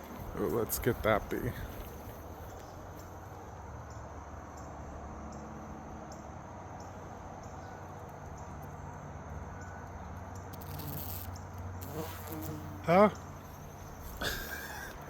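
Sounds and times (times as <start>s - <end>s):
high insect chirp: 0.0s - 15.0s
outdoor background noise: 0.0s - 15.0s.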